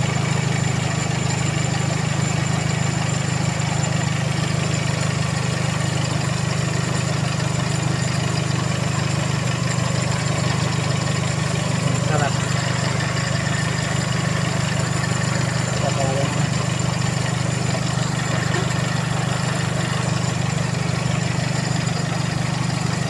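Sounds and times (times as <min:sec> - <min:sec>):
air-conditioning compressor: 0:00.0 - 0:23.0
car engine idling: 0:00.0 - 0:23.0.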